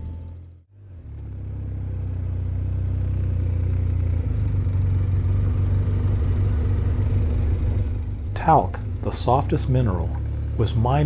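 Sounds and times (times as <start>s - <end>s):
atv engine rumbling: 0.0s - 11.0s.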